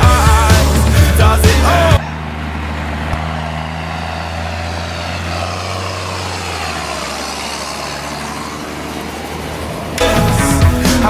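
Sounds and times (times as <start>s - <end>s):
tyre noise on road: 0.0s - 10.0s
tractor diesel engine passing: 0.0s - 11.0s.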